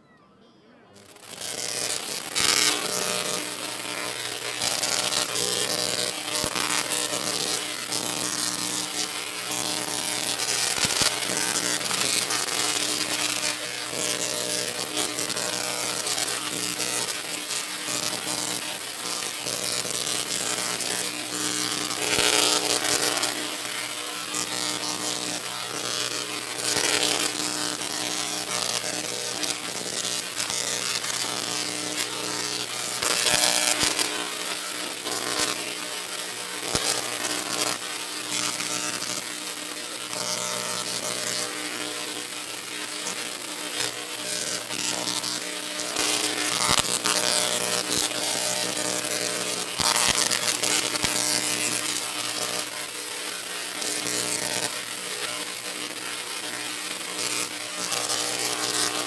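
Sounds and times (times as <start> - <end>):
tesla coil sparks crackling: 1.0 - 59.0.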